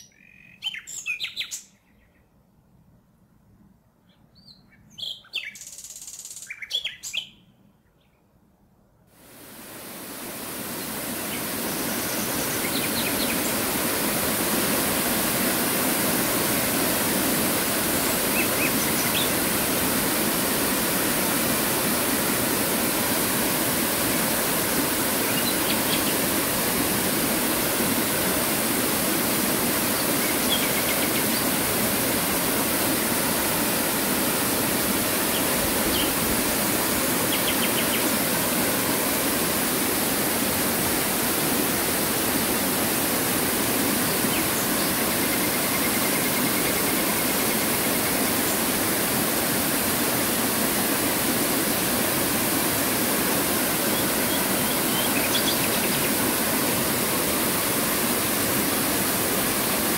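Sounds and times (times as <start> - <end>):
waterfall roaring: 9.2 - 59.9.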